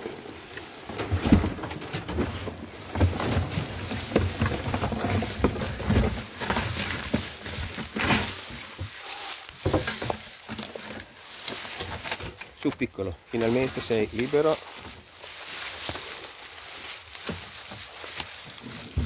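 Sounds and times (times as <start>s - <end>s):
rustling of dry leaves and grass: 0.0s - 19.0s.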